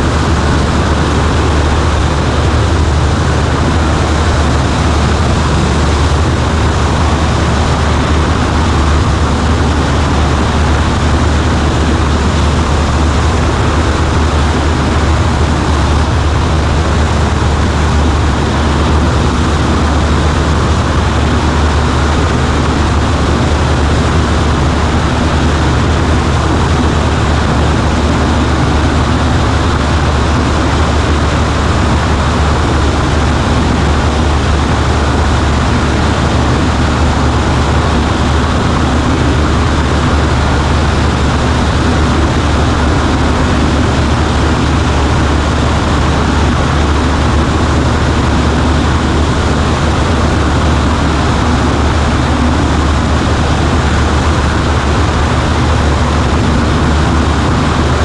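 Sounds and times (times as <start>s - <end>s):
light aircraft engine and propeller drone: 0.0s - 58.0s.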